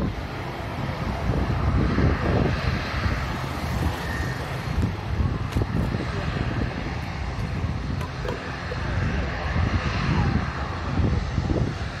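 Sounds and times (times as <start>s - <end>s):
jet engine rumble: 0.0s - 12.0s
wind buffeting microphone: 0.0s - 12.0s.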